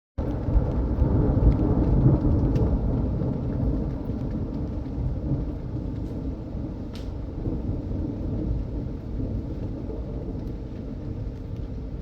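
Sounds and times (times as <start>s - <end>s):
steady rain: 0.2s - 12.0s
thunder rumbling: 0.2s - 12.0s.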